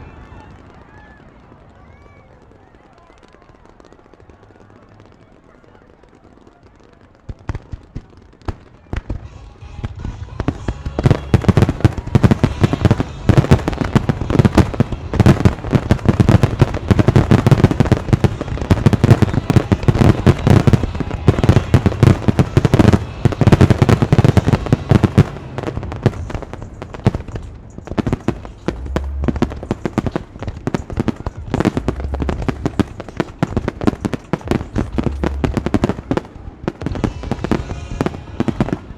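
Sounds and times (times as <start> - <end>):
fireworks bangs: 0.0 - 38.9
fireworks shells bursting: 6.2 - 38.9.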